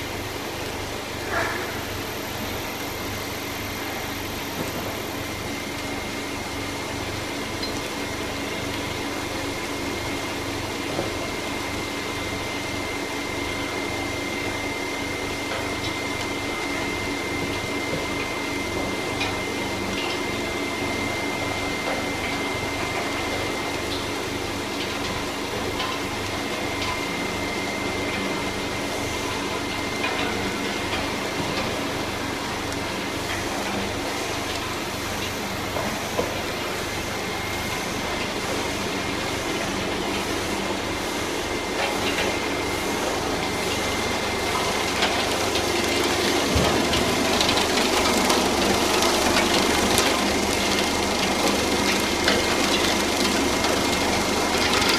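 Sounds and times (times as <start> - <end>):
conveyor machine whine: 0.0 - 54.9.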